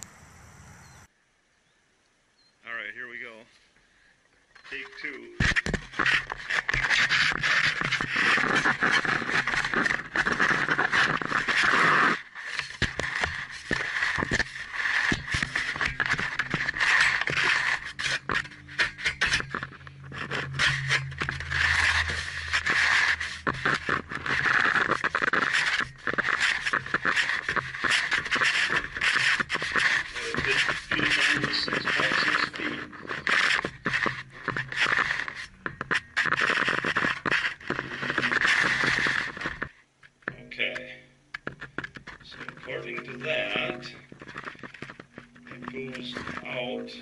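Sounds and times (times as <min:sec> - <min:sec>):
camera scraping against metal casing: 0:04.6 - 0:39.8, 0:41.4 - 0:46.7.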